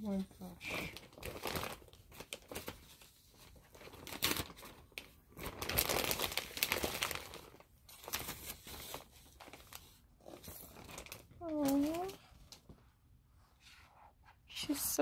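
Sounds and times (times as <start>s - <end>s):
plastic sleeve crinkling: 0.0s - 12.7s.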